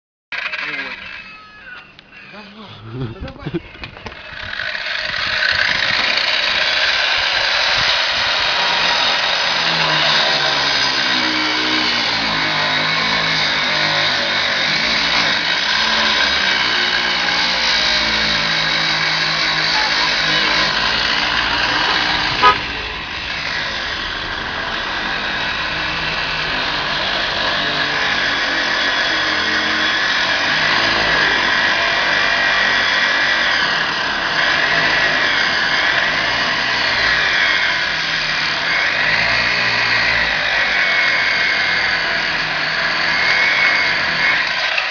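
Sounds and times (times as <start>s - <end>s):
angle grinder cutting steel: 0.3s - 1.5s, 3.3s - 44.9s.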